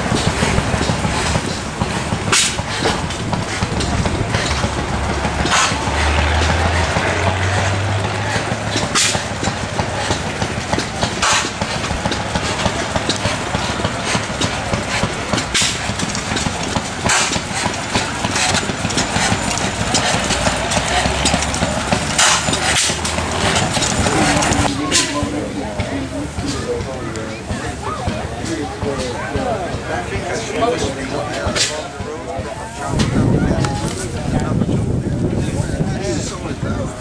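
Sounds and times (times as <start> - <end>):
tractor engine idling: 0.0 - 37.0.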